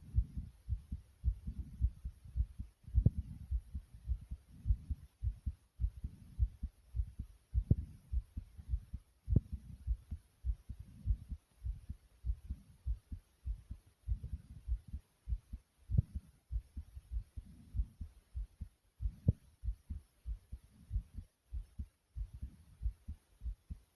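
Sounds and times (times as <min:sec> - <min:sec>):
heartbeat thumps: 0:00.0 - 0:23.9.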